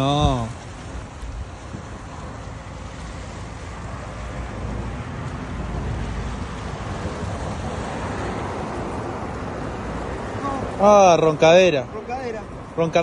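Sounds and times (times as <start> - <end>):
wind buffeting microphone: 0.0 - 10.8
water washing against seawall: 0.0 - 13.0.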